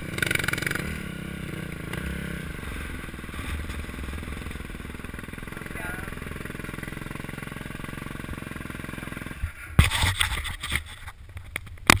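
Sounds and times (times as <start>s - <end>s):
dirt bike engine idling: 0.0s - 9.8s.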